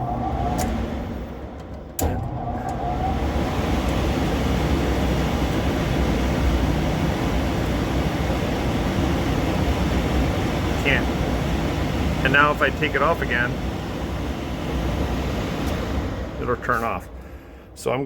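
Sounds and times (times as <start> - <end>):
furnace blower fan running: 0.0 - 18.0.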